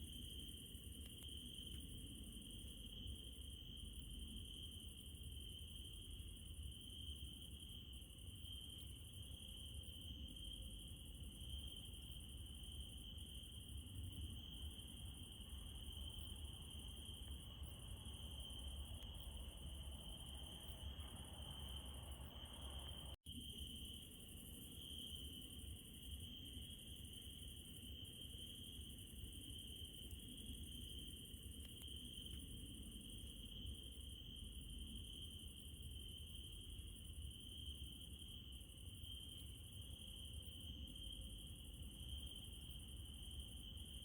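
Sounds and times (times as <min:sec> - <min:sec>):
night insects trilling: 0:00.0 - 0:44.0.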